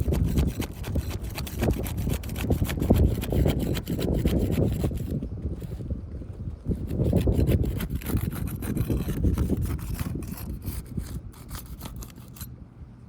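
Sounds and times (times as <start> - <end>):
tools scraping roof shingles: 0.0 - 5.8, 6.8 - 12.5.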